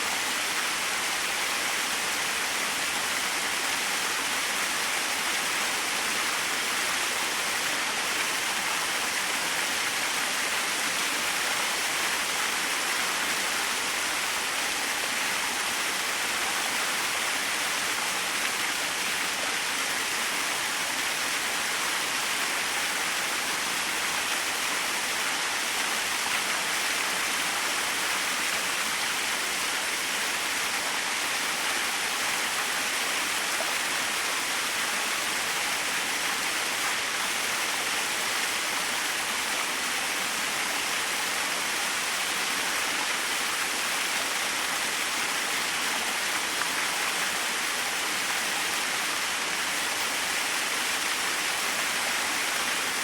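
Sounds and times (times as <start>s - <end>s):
small waterfall rushing: 0.0s - 53.0s.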